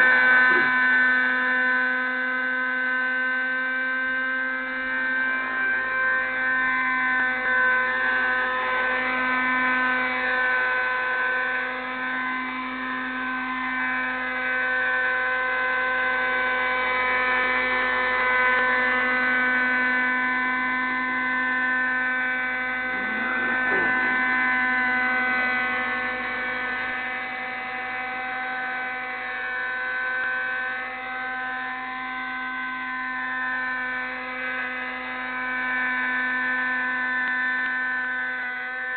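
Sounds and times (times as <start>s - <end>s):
model helicopter engine whine: 0.0s - 38.9s.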